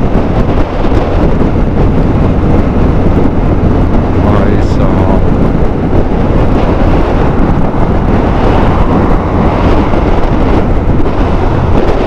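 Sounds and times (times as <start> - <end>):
road noise: 0.0 - 12.0
wind noise on microphone: 0.0 - 12.0.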